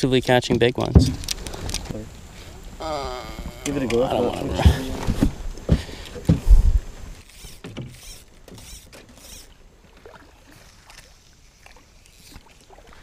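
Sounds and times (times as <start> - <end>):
paddle splashing in water: 1.0 - 13.0.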